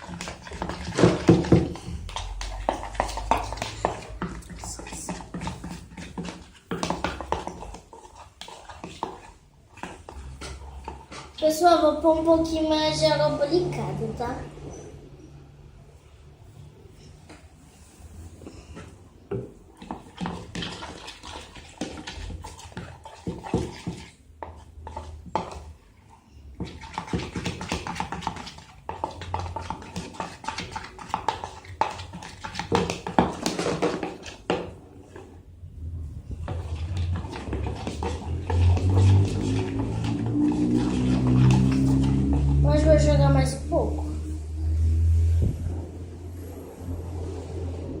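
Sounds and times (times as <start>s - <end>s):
slime stirred in a bowl: 0.0s - 14.4s, 15.8s - 48.0s.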